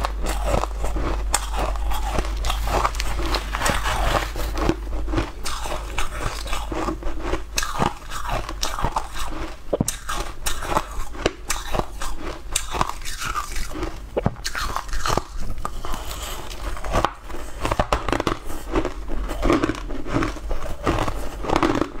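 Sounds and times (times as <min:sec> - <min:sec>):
chewing crushed ice: 0:00.0 - 0:22.0.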